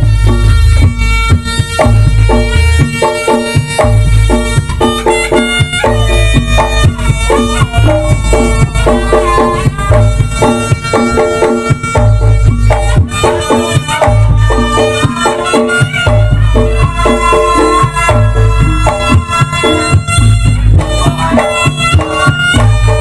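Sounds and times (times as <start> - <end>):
drums: 0.0 - 23.0
reedy shawm melody: 0.0 - 23.0.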